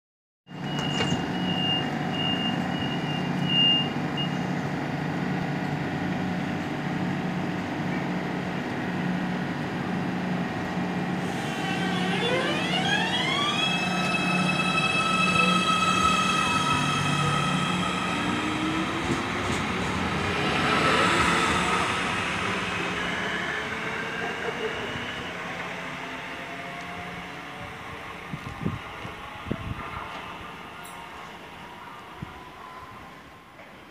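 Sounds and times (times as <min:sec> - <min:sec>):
train pulsing low hum: 0:02.0 - 0:33.9.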